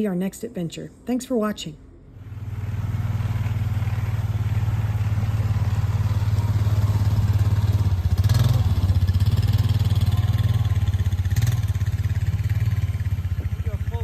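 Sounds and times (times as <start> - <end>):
small engine running: 2.2 - 14.0.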